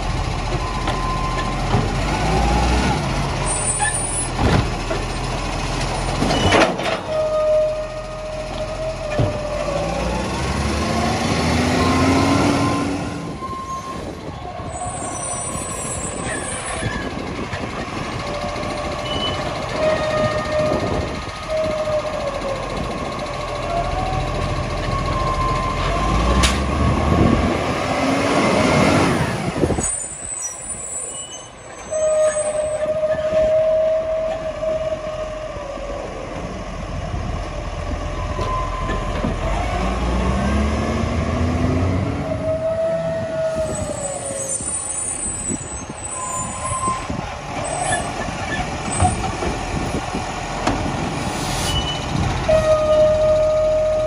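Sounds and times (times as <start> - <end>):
diesel engine running and revving: 0.0 - 30.9, 31.6 - 54.0.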